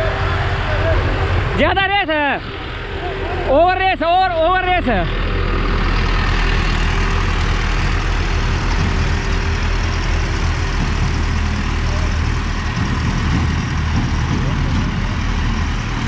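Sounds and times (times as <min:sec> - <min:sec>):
tractor engines droning: 0:00.0 - 0:16.0.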